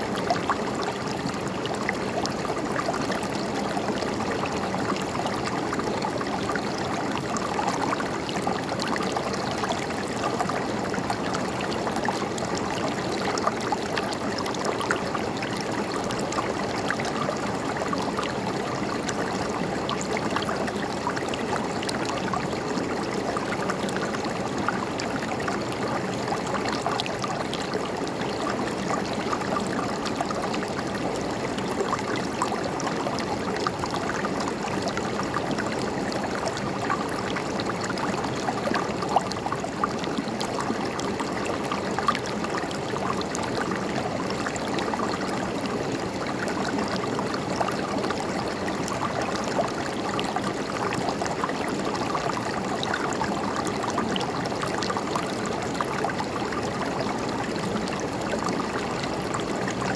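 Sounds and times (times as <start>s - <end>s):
river water flowing over rocks: 0.0s - 59.9s.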